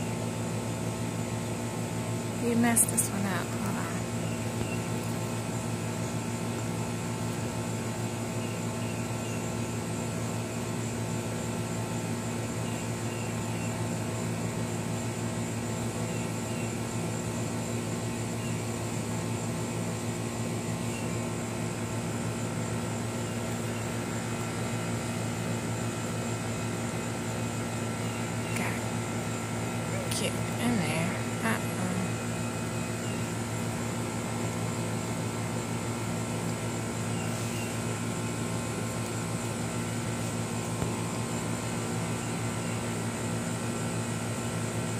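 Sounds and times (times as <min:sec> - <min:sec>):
mechanical hum: 0:00.0 - 0:44.9.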